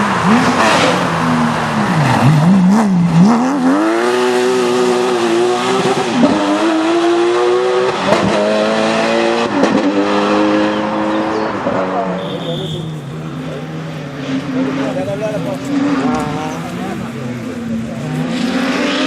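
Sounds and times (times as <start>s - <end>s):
rally car engine accelerating: 0.0s - 12.2s, 13.0s - 19.0s.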